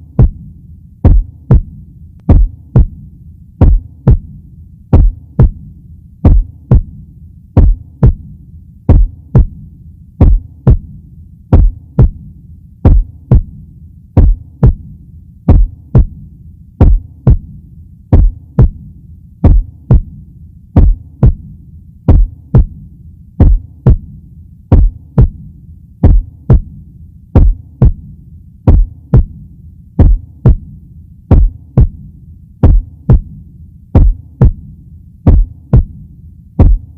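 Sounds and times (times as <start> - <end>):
heartbeat thumps: 0.0 - 7.0, 7.6 - 13.6, 14.2 - 16.2, 16.8 - 20.2, 20.8 - 36.9
steady low hum: 0.0 - 36.9.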